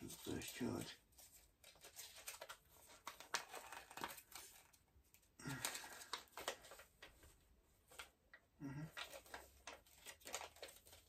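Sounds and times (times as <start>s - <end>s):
packaging crinkling and rustling: 0.0s - 8.2s, 8.8s - 11.0s.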